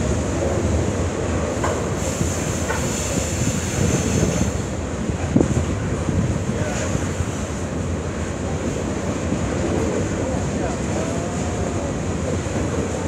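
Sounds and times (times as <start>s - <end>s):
freight train rolling on rails: 0.0s - 13.0s
wind buffeting microphone: 0.0s - 13.0s.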